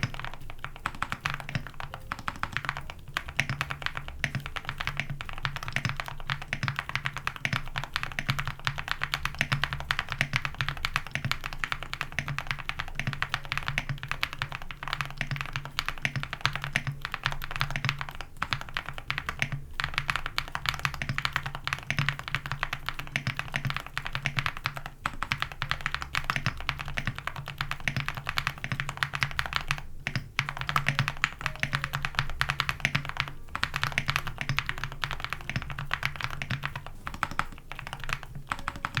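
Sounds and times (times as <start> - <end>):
fast typing on mechanical keyboard: 0.0 - 39.0.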